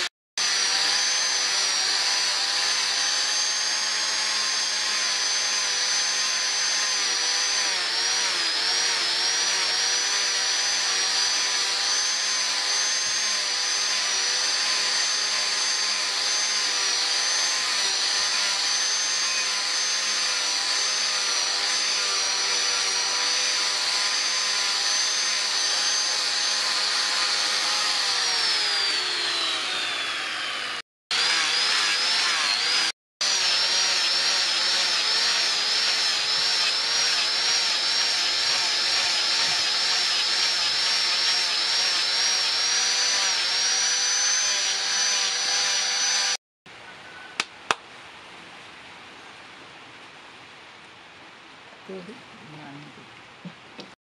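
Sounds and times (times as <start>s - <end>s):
angle grinder sanding wood: 0.0s - 46.4s.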